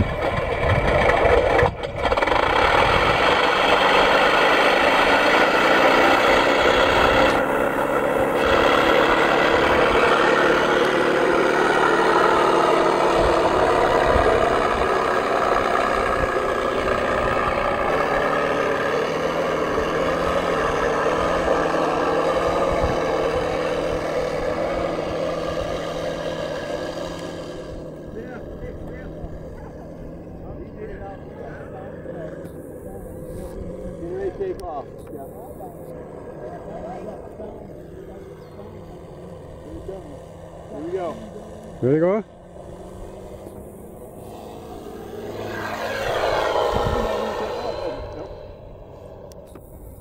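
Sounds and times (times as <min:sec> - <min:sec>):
model plane motor running: 0:00.0 - 0:50.0.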